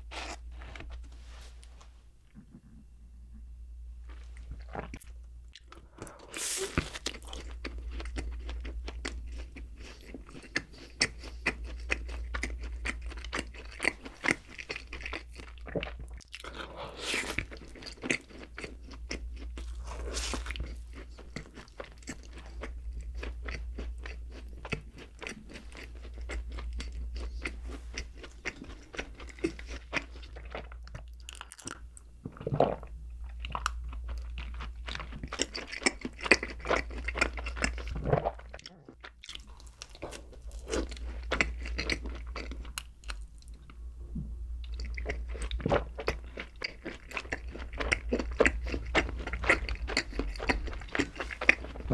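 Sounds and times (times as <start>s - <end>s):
steady low hum: 0.0s - 51.9s
chewing and biting doughnuts: 4.1s - 43.8s, 44.6s - 51.9s.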